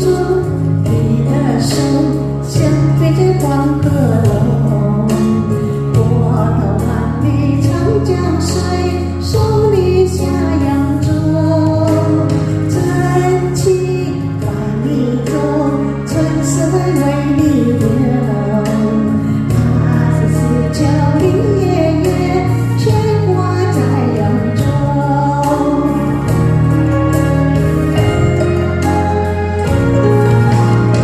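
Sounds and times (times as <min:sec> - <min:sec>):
backing music with bass and beat: 0:00.0 - 0:31.0
woman singing pop melody: 0:00.0 - 0:31.0.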